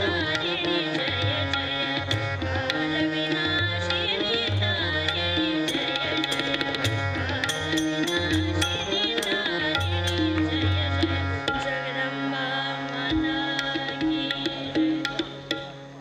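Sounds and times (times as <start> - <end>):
tabla: 0.0 - 16.0.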